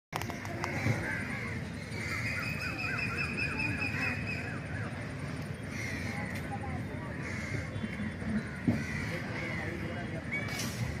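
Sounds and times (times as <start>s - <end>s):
birds calling: 0.2s - 11.0s.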